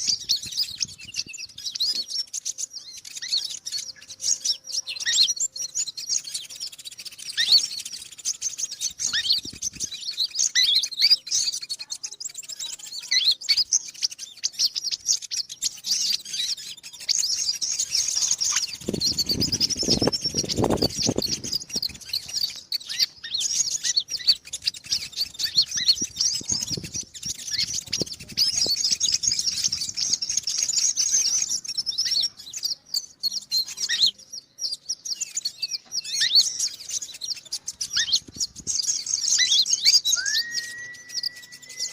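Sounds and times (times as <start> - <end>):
bird twittering chirps: 0.0 - 41.9.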